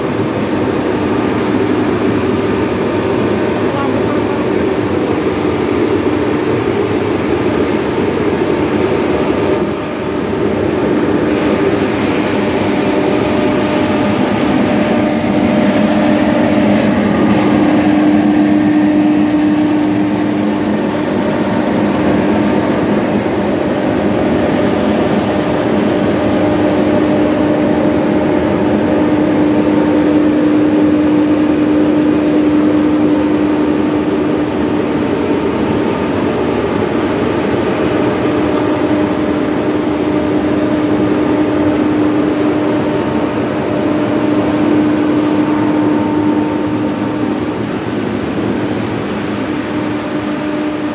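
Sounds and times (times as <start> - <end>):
diesel generator humming: 0.0 - 50.9.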